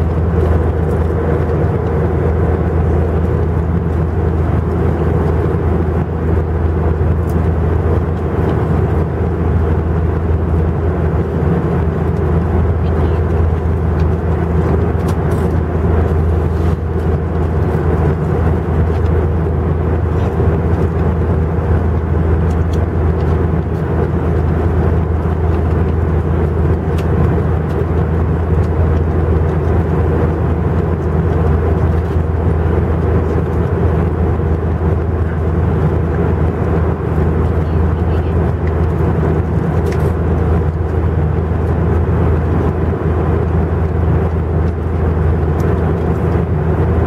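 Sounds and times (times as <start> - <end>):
jet engine drone in cabin: 0.0 - 47.0.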